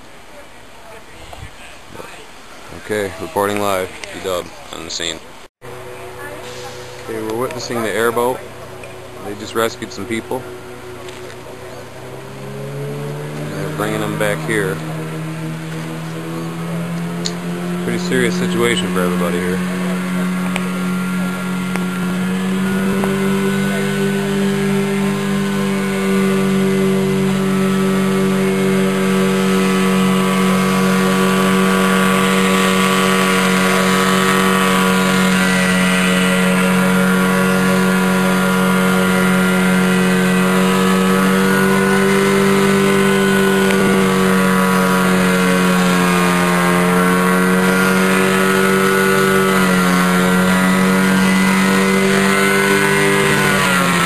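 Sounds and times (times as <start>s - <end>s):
airboat engine and propeller drone: 0.0s - 54.0s.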